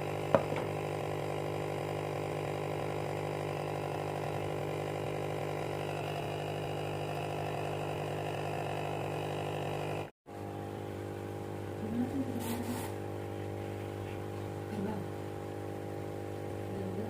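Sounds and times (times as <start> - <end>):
aquarium pump motor humming: 0.0 - 17.0.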